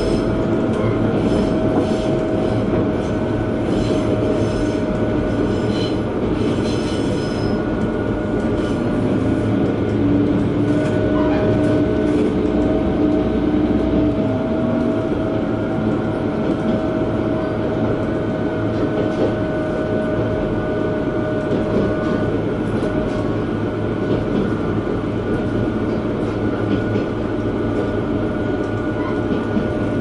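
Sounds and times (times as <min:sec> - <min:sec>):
railcar engine: 0:00.0 - 0:30.0.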